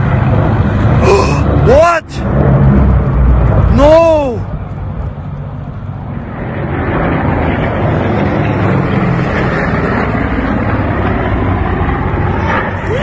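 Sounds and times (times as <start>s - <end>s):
piston aircraft engines droning: 0.0s - 13.0s.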